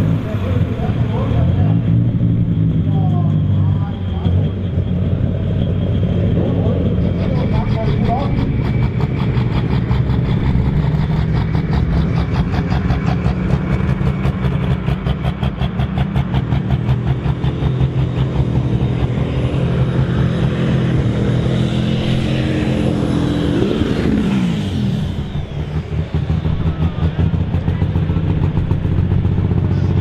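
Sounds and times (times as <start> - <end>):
diesel tractor engine at high revs: 0.0 - 30.0.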